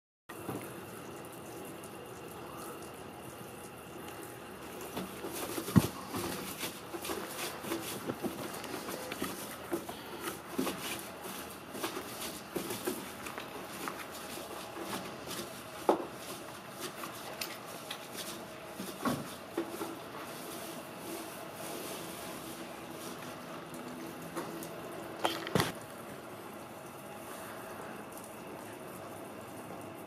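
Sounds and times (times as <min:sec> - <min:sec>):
water jets and brush on glass: 0:00.3 - 0:30.0.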